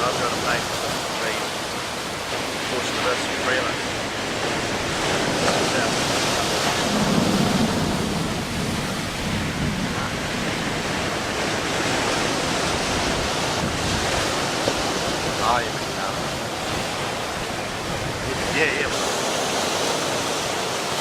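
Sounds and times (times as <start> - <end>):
sea waves: 0.0 - 21.0
wind: 0.0 - 21.0.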